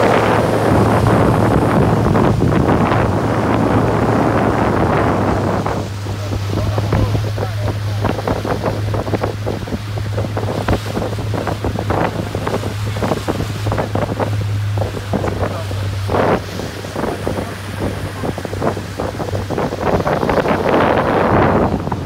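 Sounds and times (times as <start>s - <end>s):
boat engine droning: 0.0s - 22.0s
water sloshing against hull: 0.0s - 22.0s
wind buffeting microphone: 0.0s - 22.0s.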